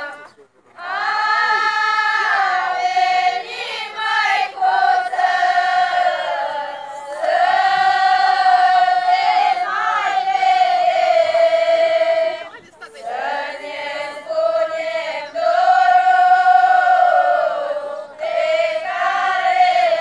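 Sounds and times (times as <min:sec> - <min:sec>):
women singing unaccompanied: 0:00.0 - 0:20.0.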